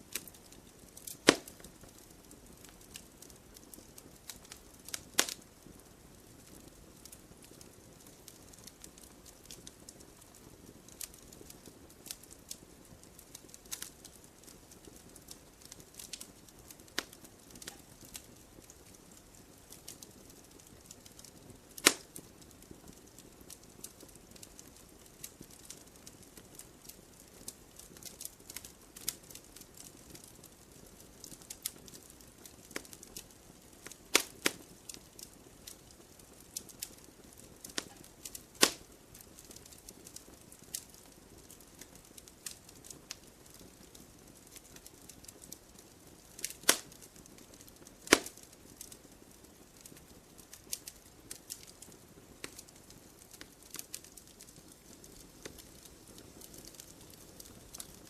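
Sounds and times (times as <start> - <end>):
fireplace fire crackling: 0.0 - 58.0
sharp pops of fire: 0.0 - 58.0.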